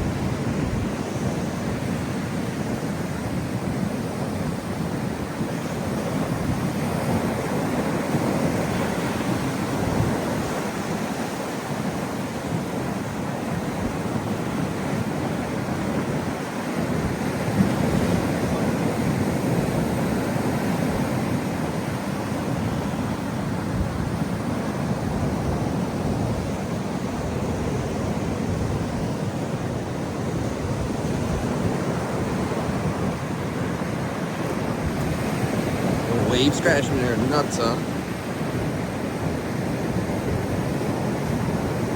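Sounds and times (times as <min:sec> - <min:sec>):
ocean waves crashing on rocks: 0:00.0 - 0:41.9.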